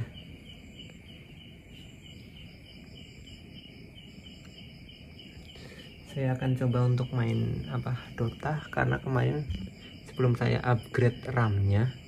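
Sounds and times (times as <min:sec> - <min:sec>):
background hiss: 0:00.0 - 0:12.0
high insect chirps: 0:00.0 - 0:12.0.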